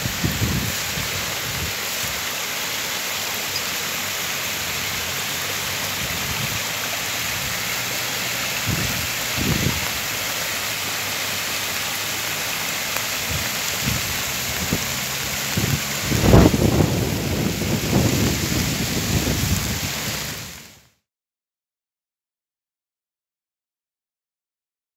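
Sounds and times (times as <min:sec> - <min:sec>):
heavy rain on car roof: 0:00.0 - 0:20.9.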